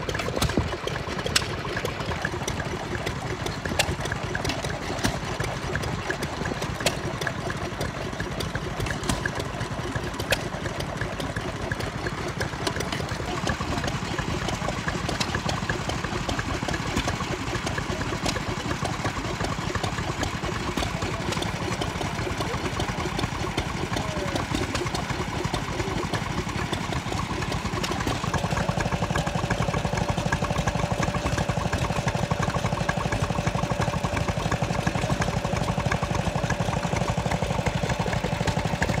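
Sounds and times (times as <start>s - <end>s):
stationary engine running: 0.0s - 39.0s.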